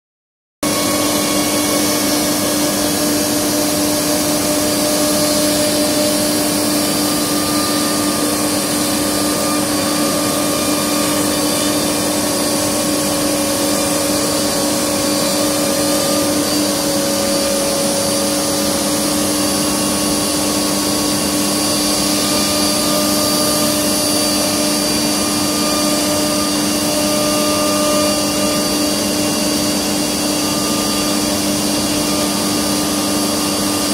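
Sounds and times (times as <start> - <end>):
dust extraction: 0.6 - 33.9
router spindle whine: 0.6 - 33.9
rushing noise of cutting: 0.6 - 33.9.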